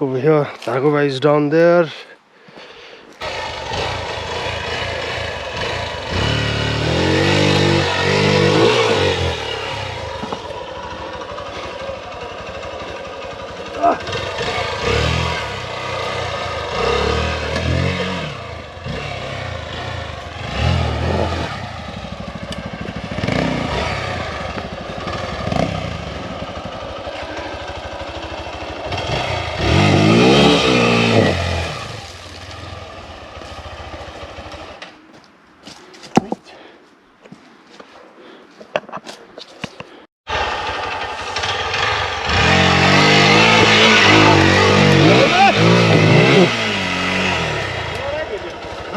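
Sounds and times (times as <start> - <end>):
motorcycle engine revving: 3.2 - 35.0, 40.3 - 48.9.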